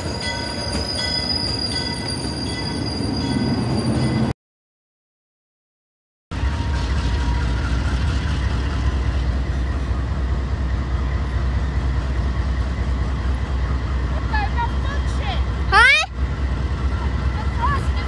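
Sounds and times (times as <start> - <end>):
diesel locomotive rumbling: 0.0 - 4.3, 6.3 - 18.0.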